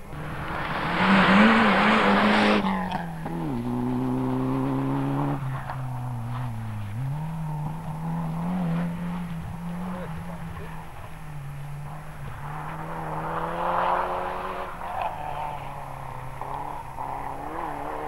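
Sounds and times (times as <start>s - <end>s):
rally car engine running hard: 0.0s - 18.0s.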